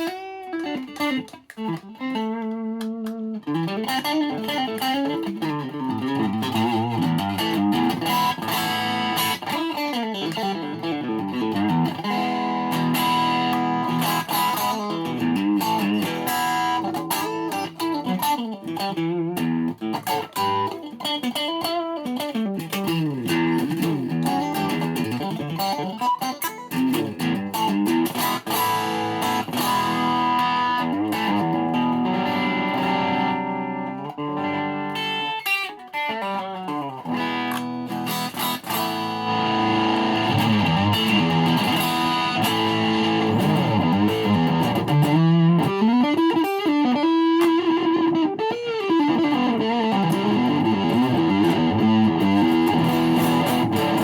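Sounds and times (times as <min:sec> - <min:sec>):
electric guitar melodic lines: 0:00.0 - 0:54.0.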